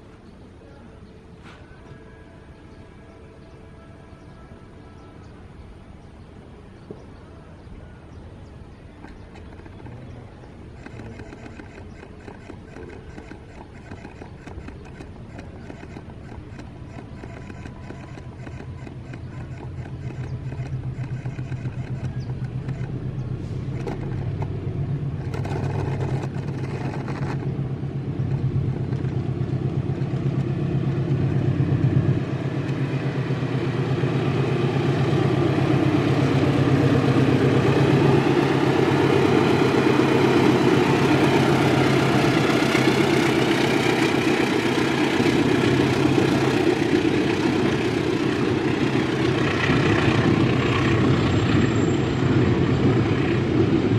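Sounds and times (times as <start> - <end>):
locomotive engine drone: 0.0 - 53.9
train wheel and rail noise: 0.0 - 53.9.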